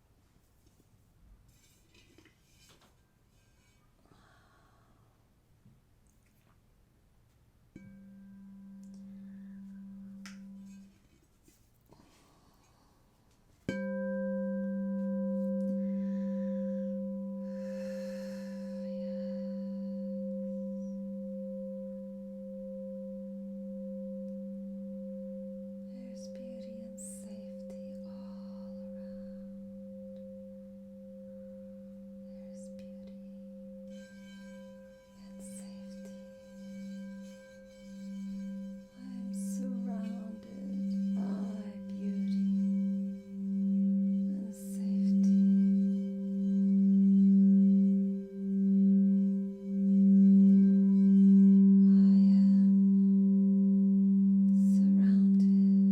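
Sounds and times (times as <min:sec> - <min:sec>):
singing bowl ringing: 0:07.8 - 0:11.0, 0:13.7 - 0:55.9.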